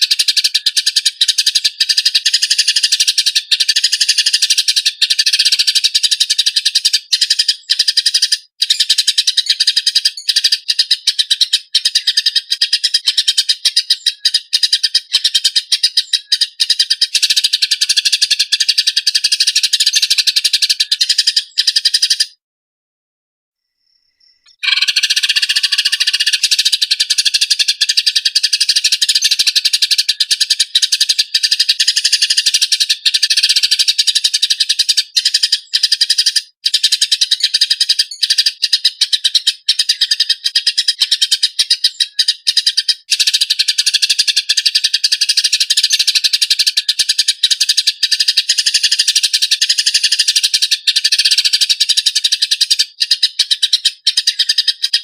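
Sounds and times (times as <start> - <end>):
sparrows chattering: 0.0 - 22.4, 23.8 - 55.0.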